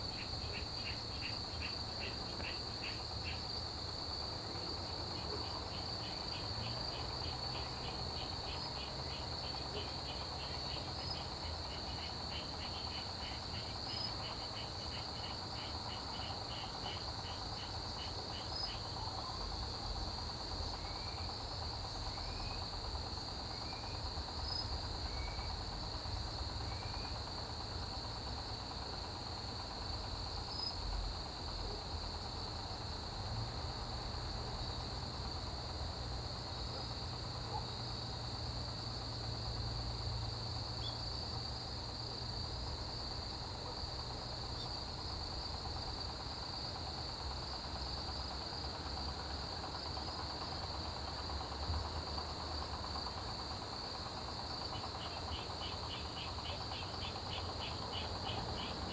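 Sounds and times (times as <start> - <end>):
insects trilling: 0.0 - 58.9
pulsing insect chirp: 0.0 - 58.9.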